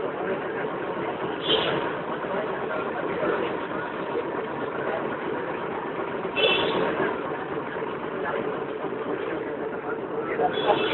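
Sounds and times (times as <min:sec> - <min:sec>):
street traffic: 0:00.0 - 0:10.9
tram running: 0:00.0 - 0:10.9.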